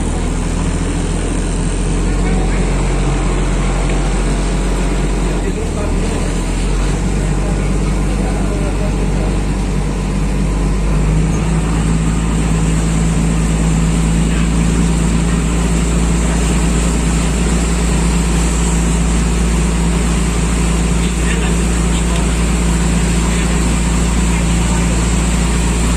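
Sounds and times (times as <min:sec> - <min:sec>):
boat engine humming: 0:00.0 - 0:25.9.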